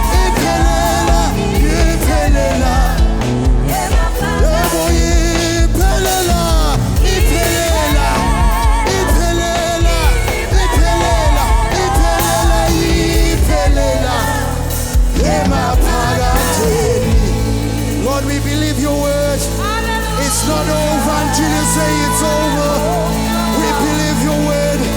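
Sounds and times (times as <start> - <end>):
gospel band playing: 0.0 - 24.9
voices singing with vibrato: 0.0 - 24.9.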